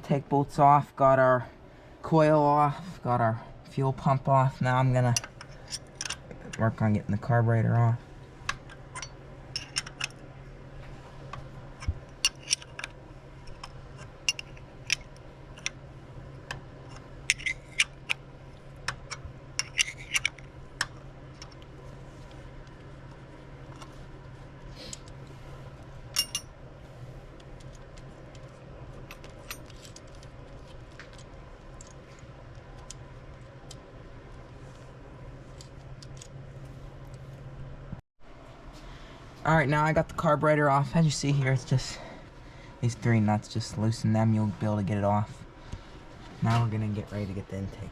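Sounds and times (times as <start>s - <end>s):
low hum: 0.0s - 47.9s.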